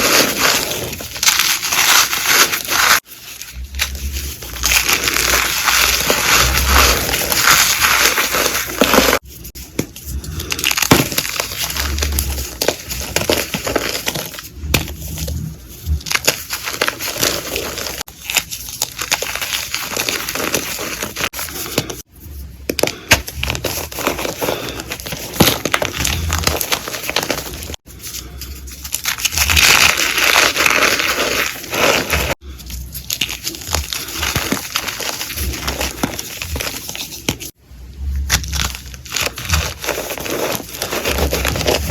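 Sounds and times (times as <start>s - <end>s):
chalk crushing and crunching: 0.0s - 37.6s, 38.2s - 41.9s.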